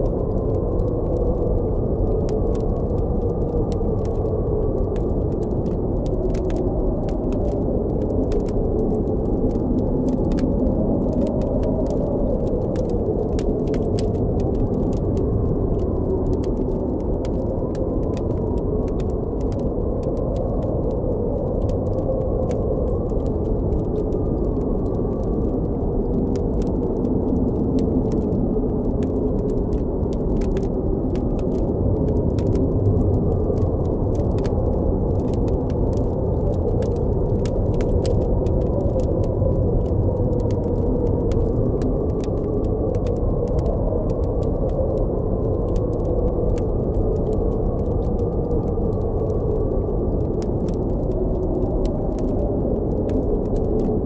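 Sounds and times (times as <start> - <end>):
blizzard wind blowing: 0.0 - 54.0
campfire crackling: 0.0 - 54.0.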